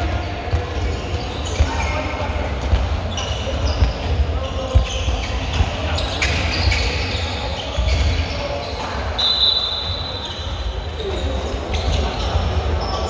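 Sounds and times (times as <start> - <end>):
voices echoing: 0.0 - 13.0.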